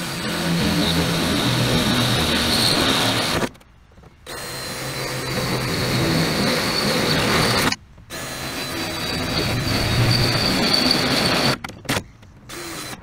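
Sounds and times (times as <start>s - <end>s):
power tool whining on sheet steel: 0.0s - 3.5s, 4.3s - 11.6s.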